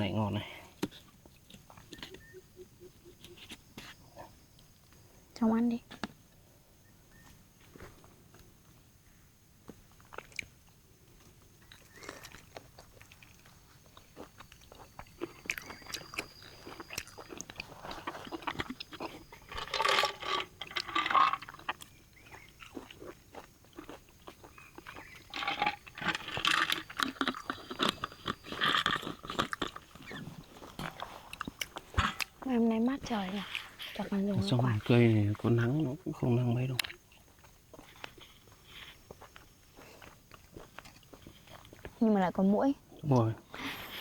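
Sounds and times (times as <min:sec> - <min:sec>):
chewing and crunching food: 0:00.2 - 0:05.2, 0:09.6 - 0:44.0.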